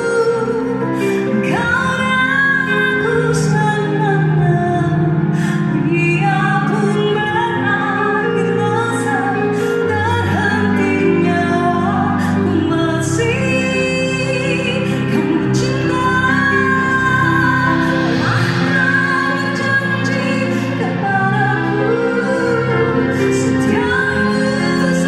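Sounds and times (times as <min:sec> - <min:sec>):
woman singing a ballad: 0:00.0 - 0:25.0.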